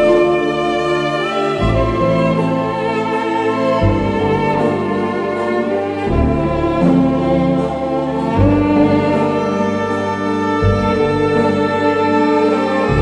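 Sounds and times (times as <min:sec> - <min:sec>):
bowed strings holding chords: 0:00.0 - 0:13.0.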